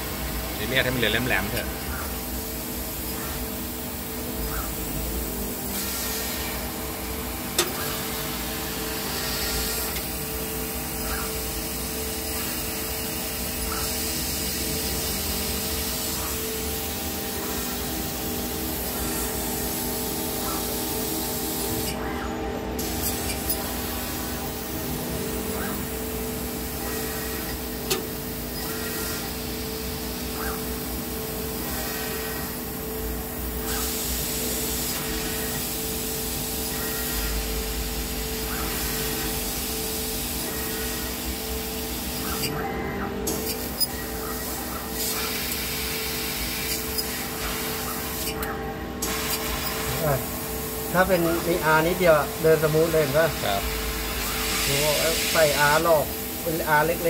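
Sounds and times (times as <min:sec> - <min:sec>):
laser cutter hissing: 0:00.0 - 0:57.0
machine hum: 0:00.0 - 0:57.0.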